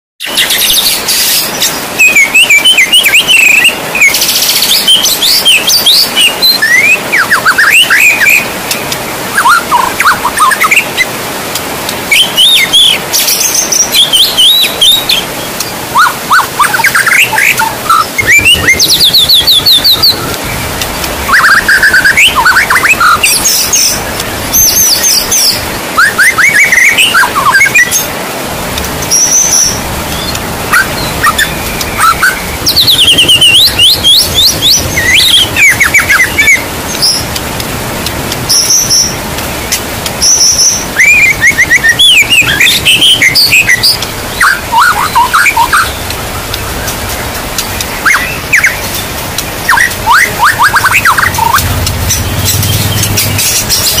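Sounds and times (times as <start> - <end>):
bird singing whistles and trills: 0.2 - 11.1, 12.1 - 28.1, 29.0 - 37.4, 38.4 - 54.0
heavy rain hissing: 0.2 - 54.0.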